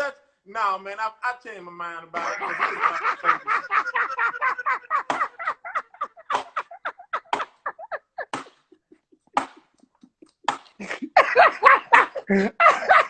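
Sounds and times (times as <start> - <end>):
breathy gasping laughter: 2.2 - 13.0.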